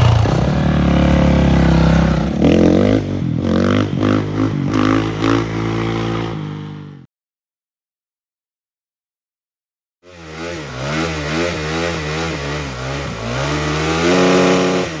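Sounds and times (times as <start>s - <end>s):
dirt bike engine revving: 0.0s - 7.1s, 10.0s - 15.0s.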